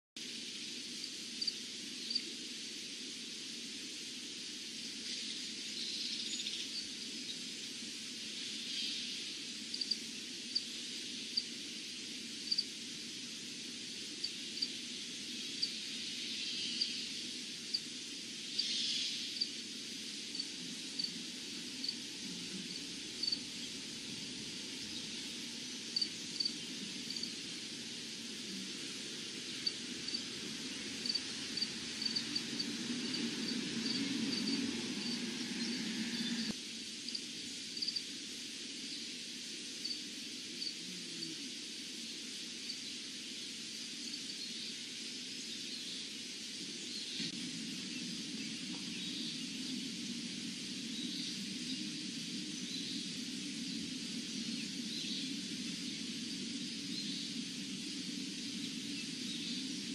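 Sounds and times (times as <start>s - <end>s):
insects droning: 0.2s - 59.9s.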